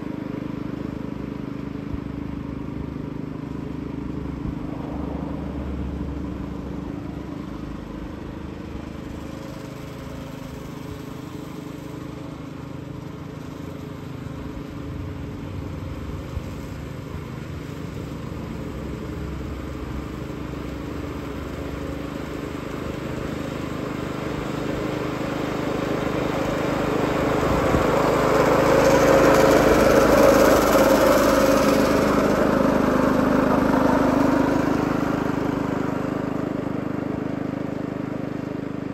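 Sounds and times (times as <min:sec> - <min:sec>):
reel mower engine running: 0:00.0 - 0:38.9.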